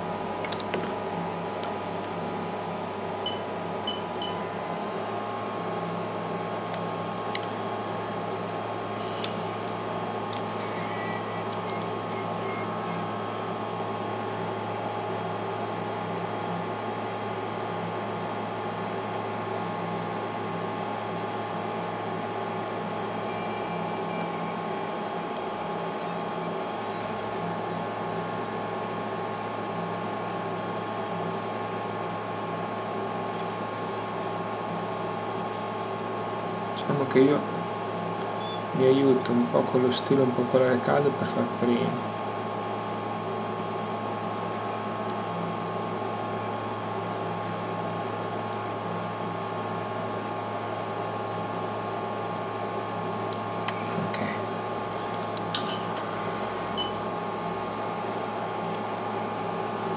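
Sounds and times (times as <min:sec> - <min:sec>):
hot-air blower whirring with whine: 0:00.0 - 0:59.9.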